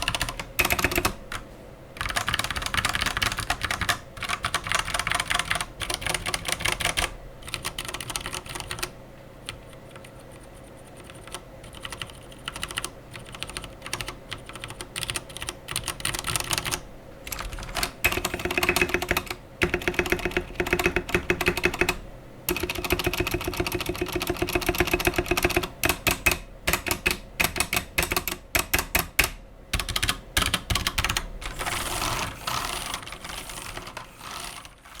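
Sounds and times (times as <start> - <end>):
mechanical keyboard typing: 0.0 - 1.4, 2.0 - 35.0.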